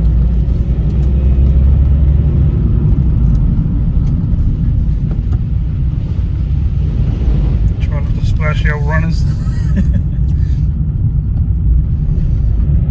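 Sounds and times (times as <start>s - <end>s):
car engine and tyre rumble: 0.0s - 12.9s.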